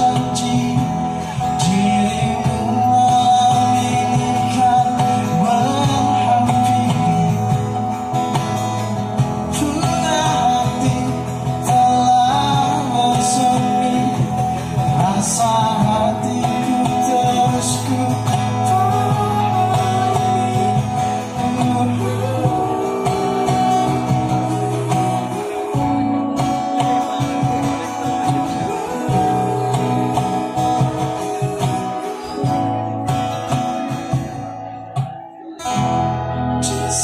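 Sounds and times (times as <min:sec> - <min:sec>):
acoustic guitar: 0:00.0 - 0:37.0
person singing: 0:00.0 - 0:37.0.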